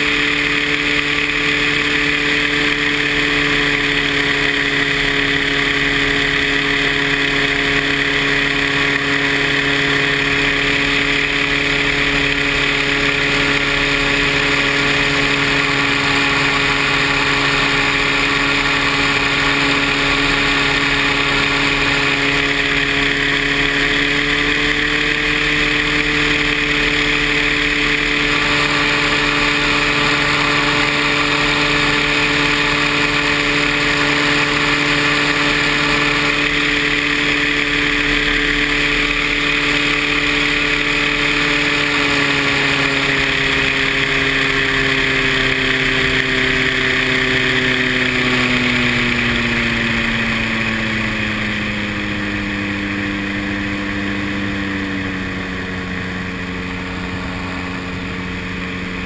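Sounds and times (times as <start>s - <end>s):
paramotor engine drone: 0.0s - 59.0s.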